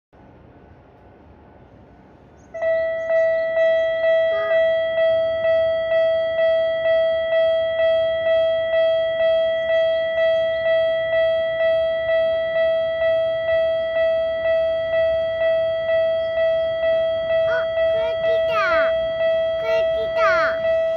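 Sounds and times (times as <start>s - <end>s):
level crossing alarm ringing: 2.5s - 20.9s.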